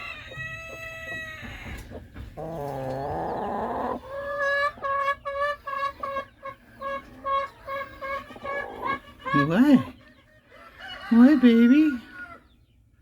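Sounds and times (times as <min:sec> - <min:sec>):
chicken drawn-out call: 0:00.0 - 0:12.5
chickens clucking: 0:00.0 - 0:13.0.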